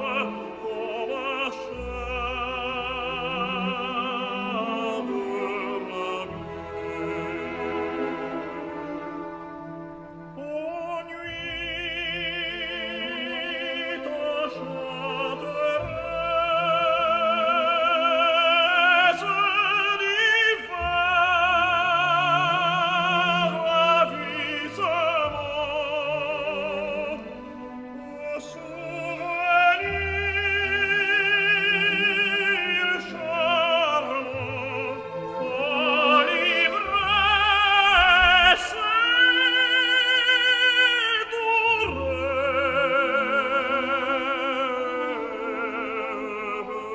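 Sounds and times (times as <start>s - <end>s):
operatic voice singing: 0.0s - 9.3s, 10.3s - 46.9s
orchestral accompaniment: 0.0s - 46.9s.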